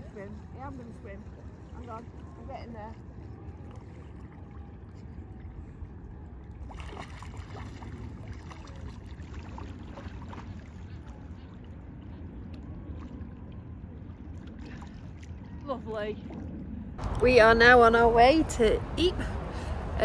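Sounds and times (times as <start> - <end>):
water splashing from swimming: 0.0 - 17.0
steady low rumble: 0.0 - 20.0.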